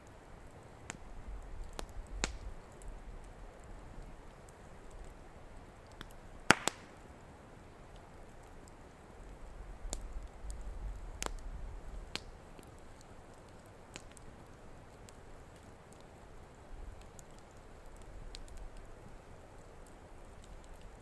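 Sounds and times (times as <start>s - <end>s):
campfire crackling and popping: 0.0s - 21.0s
soft steady hiss: 0.0s - 21.0s.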